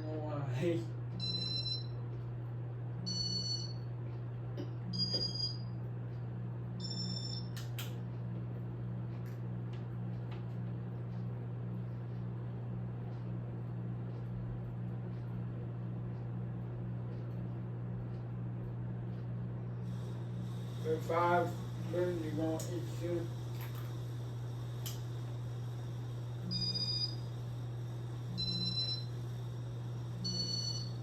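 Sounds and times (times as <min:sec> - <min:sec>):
ceiling fan motor hum: 0:00.0 - 0:31.0.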